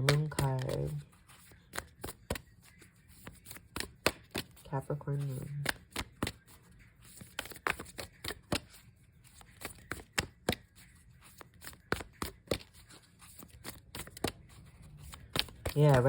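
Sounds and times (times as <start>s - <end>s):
cards being shuffled: 0.0s - 16.0s.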